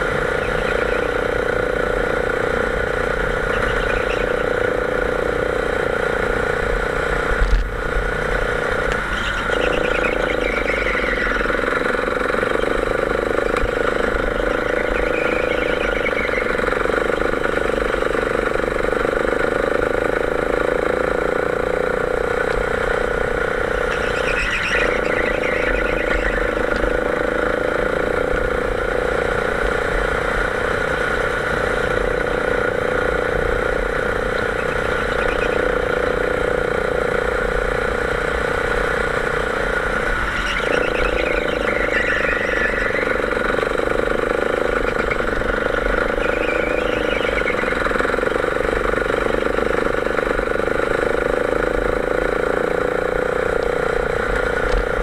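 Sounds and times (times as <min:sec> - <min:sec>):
kart engine at high revs: 0:00.0 - 0:55.0.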